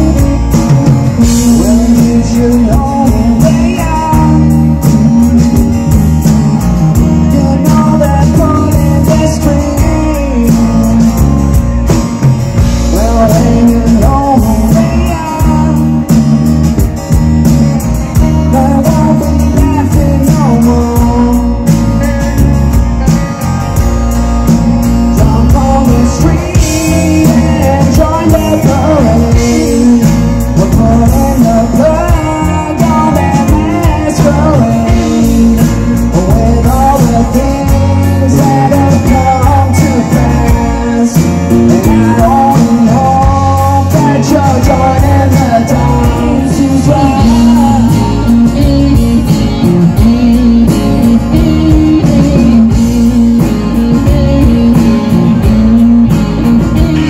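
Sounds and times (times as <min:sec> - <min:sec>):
acoustic guitar strumming: 0:00.0 - 0:57.0
bass guitar: 0:00.0 - 0:57.0
drum kit: 0:00.0 - 0:57.0
electric guitar: 0:00.0 - 0:57.0
man singing: 0:00.0 - 0:57.0.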